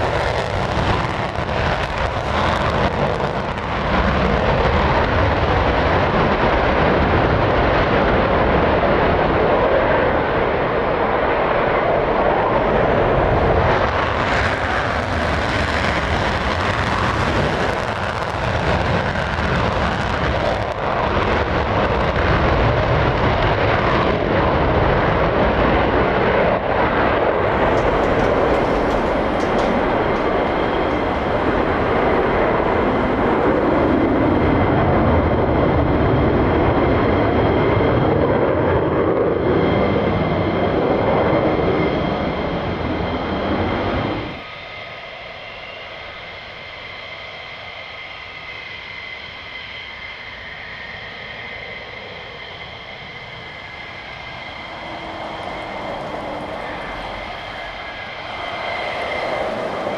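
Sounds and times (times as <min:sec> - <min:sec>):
fighter jet engines roaring: 0:00.0 - 0:59.9
high-pitched engine whine: 0:00.0 - 0:59.9.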